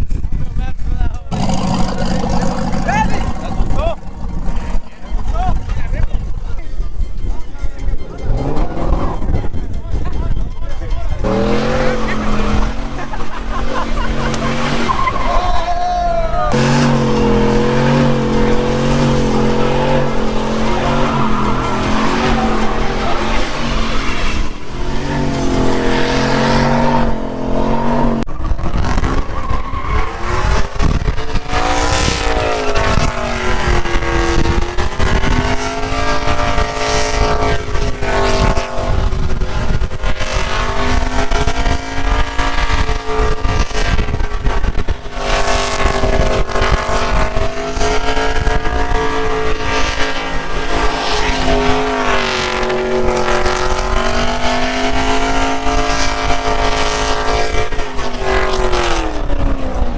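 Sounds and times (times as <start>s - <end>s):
truck engine revving high: 0.8s - 59.9s.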